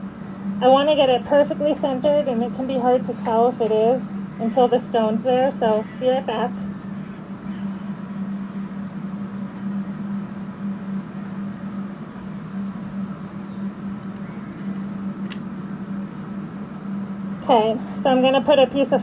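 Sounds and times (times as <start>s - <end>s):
electric fans humming: 0.0s - 19.0s.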